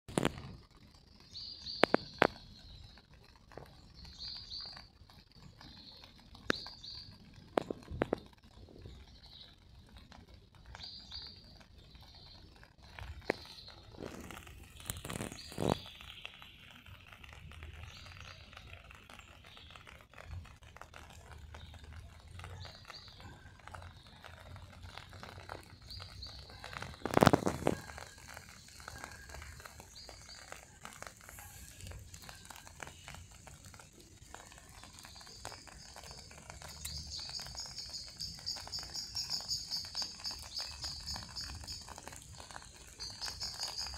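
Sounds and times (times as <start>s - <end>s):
small birds chirping: 0.1s - 43.9s.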